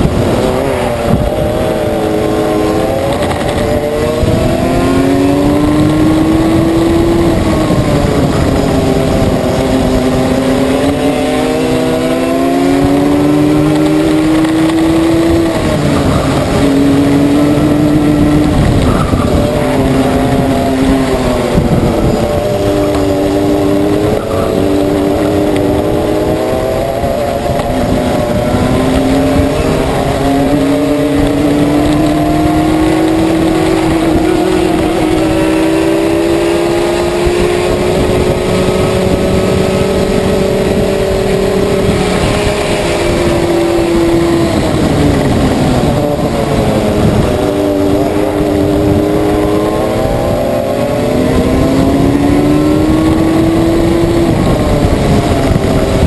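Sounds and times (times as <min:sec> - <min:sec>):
go-kart engines racing: 0:00.0 - 0:56.0.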